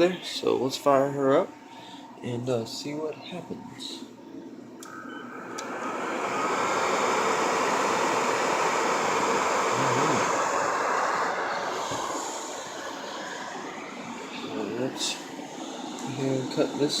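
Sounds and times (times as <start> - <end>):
server cooling fans whirring: 0.0 - 17.0.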